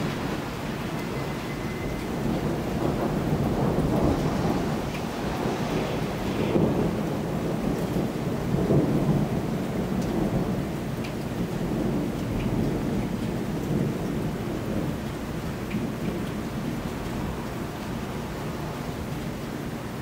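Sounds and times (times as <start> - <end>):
thunder rumbling: 0.0 - 19.8.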